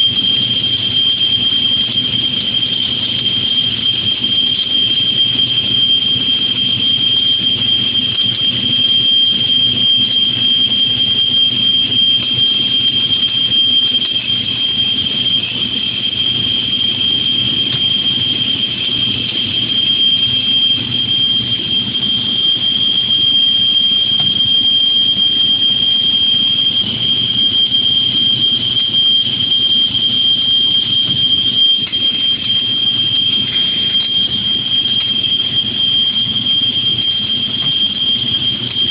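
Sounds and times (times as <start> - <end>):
machine high-pitched whine: 0.0 - 38.9.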